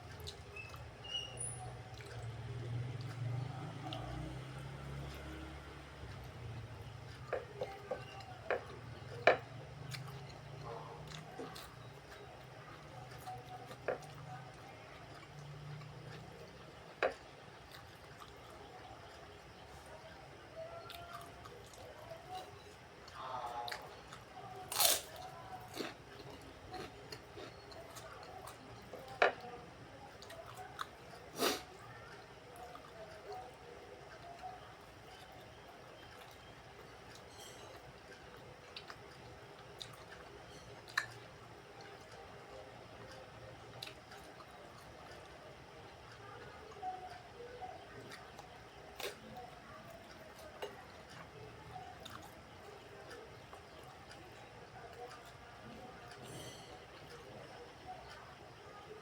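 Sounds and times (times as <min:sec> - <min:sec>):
close-miked chewing: 0:00.0 - 0:59.0.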